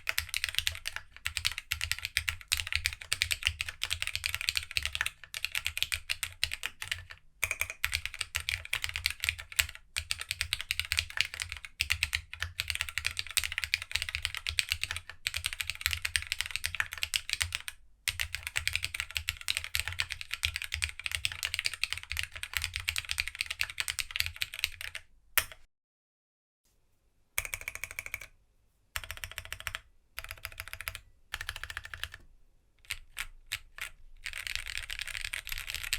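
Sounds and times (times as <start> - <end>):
mechanical keyboard typing: 0.0 - 25.7, 27.4 - 28.3, 29.0 - 32.2, 32.8 - 35.9.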